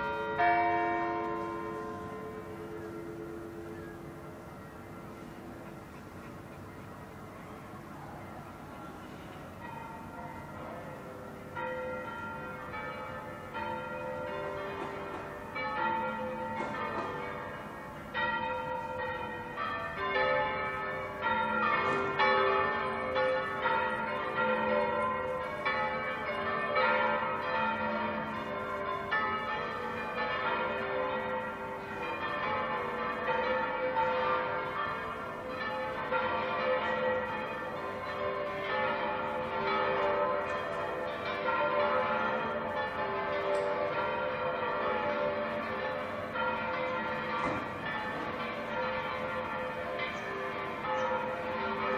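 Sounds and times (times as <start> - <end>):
church bells pealing: 0.0 - 51.9.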